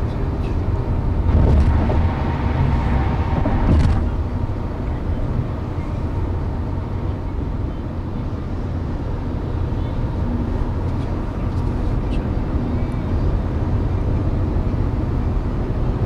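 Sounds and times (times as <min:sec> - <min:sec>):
car driving on highway: 0:00.0 - 0:16.0.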